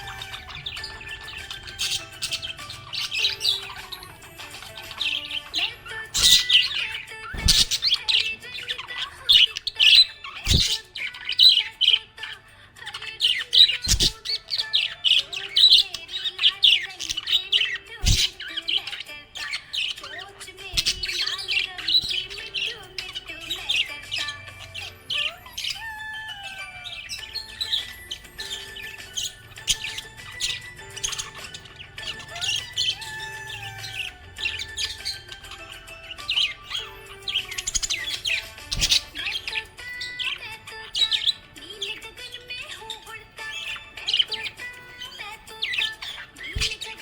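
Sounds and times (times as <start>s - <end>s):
budgerigar chirping and warbling: 0.0s - 47.0s.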